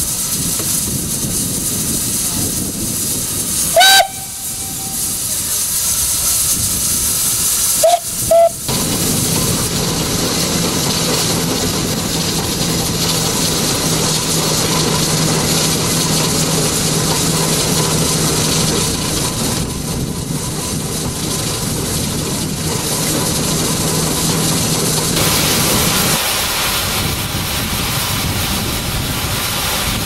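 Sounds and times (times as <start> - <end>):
steam engine hissing and rumbling: 0.0 - 30.0.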